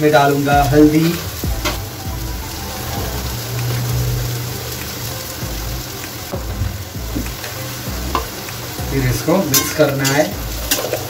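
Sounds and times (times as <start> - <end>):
potatoes and onion sizzling in oil: 0.0 - 11.0.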